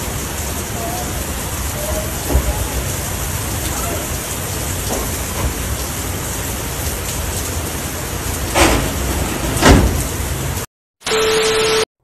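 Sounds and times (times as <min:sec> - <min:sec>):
steady rain falling: 0:00.0 - 0:10.7.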